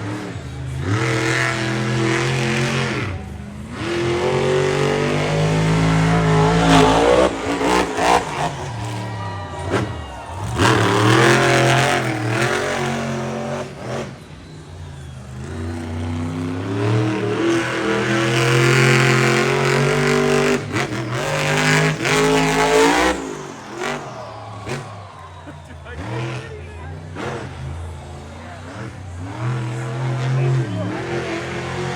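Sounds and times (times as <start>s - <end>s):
truck engine revving: 0.0s - 31.9s.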